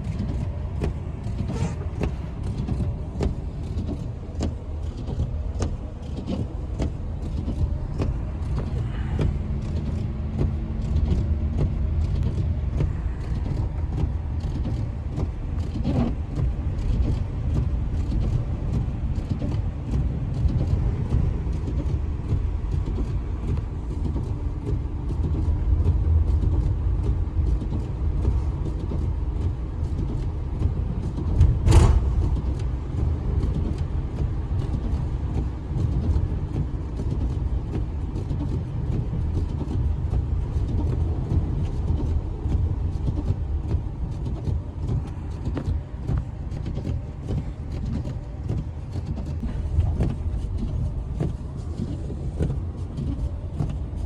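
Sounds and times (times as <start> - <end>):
snowstorm wind rumbling: 0.0 - 54.0.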